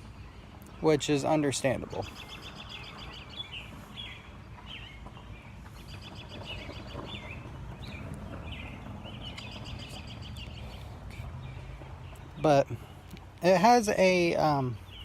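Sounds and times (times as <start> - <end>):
low background rumble: 0.0 - 15.0
songbird singing trilled notes: 0.2 - 15.0.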